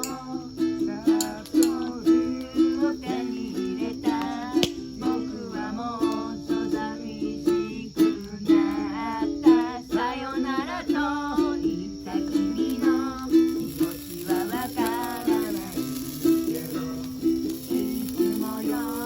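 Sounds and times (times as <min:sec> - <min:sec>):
person singing: 0:00.0 - 0:19.0
ukulele strumming: 0:00.0 - 0:19.0.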